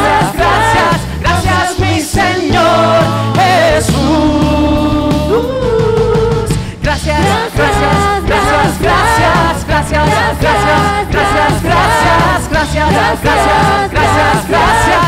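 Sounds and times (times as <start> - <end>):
band playing steady beat: 0.0 - 15.0
person singing: 0.0 - 15.0.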